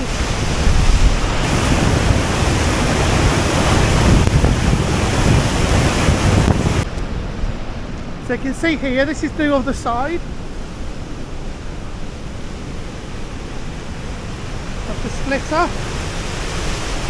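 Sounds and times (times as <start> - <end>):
water rushing from dam outlet: 0.0 - 17.0.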